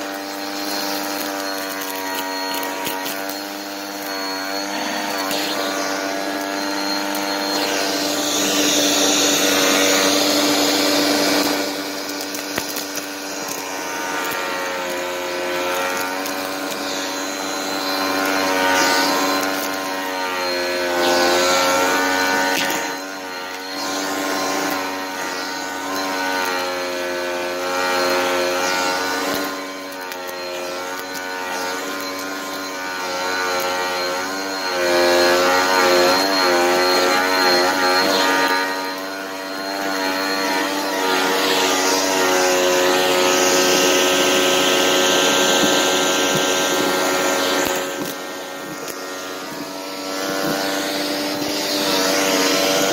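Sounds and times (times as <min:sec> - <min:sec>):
vacuum cleaner motor whine: 0:00.0 - 0:52.9.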